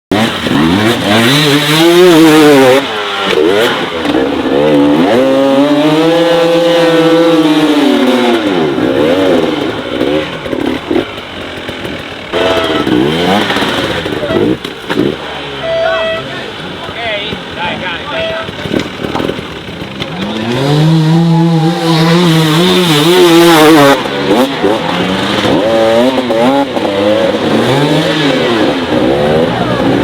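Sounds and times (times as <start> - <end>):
dirt bike engine revving: 0.1 - 30.0.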